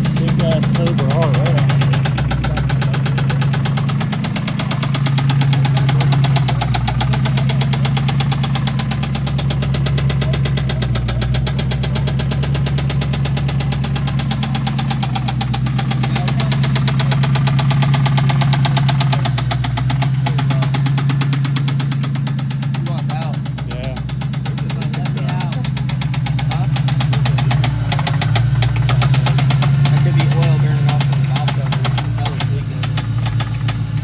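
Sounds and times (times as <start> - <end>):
car engine knocking: 0.0 - 34.0.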